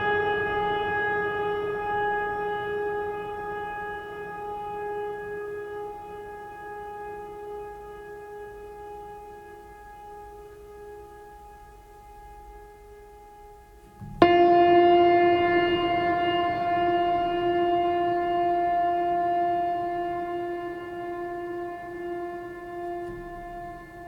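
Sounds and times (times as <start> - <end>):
low horn-like tone: 0.0 - 24.0.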